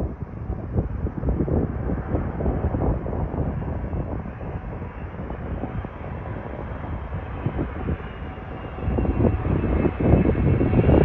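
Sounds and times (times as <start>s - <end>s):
jet engines low rumble: 0.0s - 11.0s.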